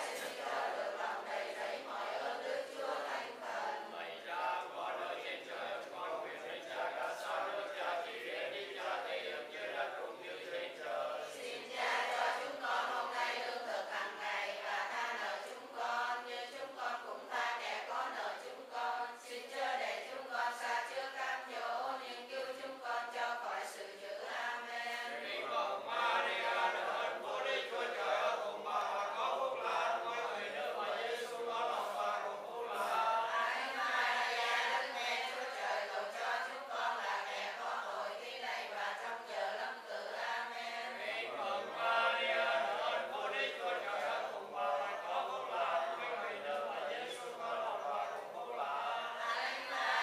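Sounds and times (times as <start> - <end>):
congregation chanting prayers: 0.0 - 50.0.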